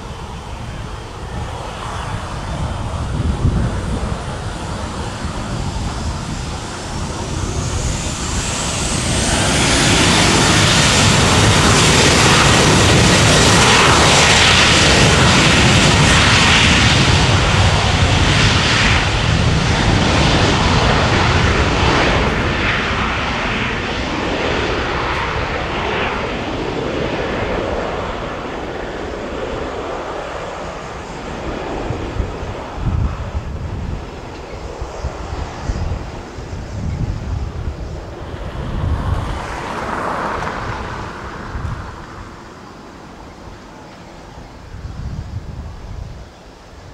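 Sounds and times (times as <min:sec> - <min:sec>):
rising engine whine: 0:00.0 - 0:45.6
jet engines running: 0:00.0 - 0:46.9.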